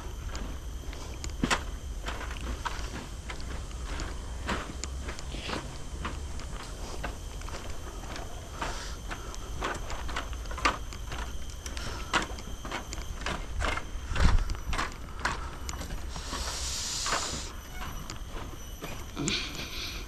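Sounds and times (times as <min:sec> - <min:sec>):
footsteps on a path: 0:00.0 - 0:20.0.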